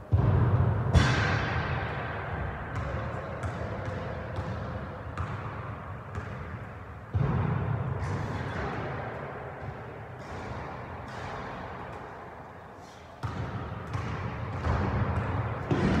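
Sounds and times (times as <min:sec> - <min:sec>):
basketballs bouncing on wooden floor: 0:00.1 - 0:01.6, 0:02.3 - 0:11.9, 0:13.2 - 0:16.0.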